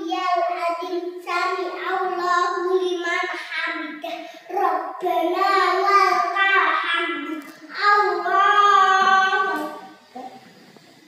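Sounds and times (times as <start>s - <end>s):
child chanting: 0.0s - 10.4s.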